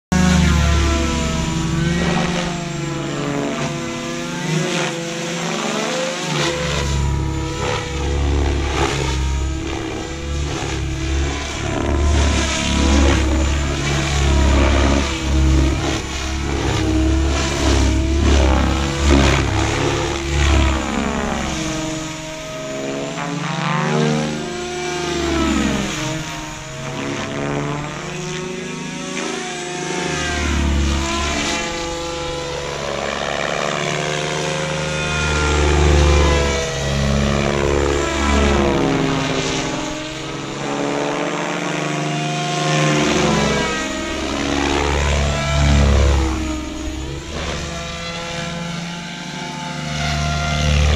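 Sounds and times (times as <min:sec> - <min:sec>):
rc helicopter rotor whine: 0:00.1 - 0:50.9.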